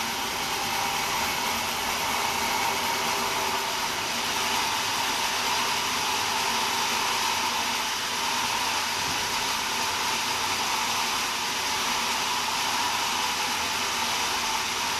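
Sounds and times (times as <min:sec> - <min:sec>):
sawmill saw whirring: 0:00.0 - 0:14.9.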